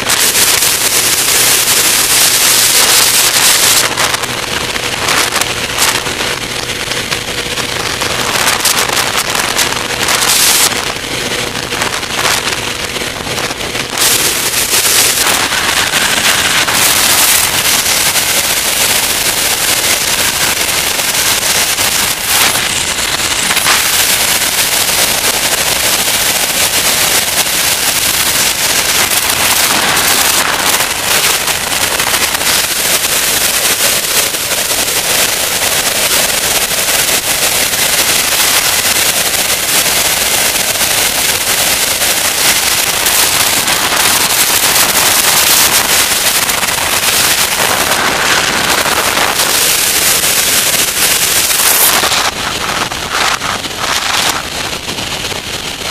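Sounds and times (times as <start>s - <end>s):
small aircraft engine drone: 0.0s - 55.9s
wind rushing over camera: 0.0s - 55.9s.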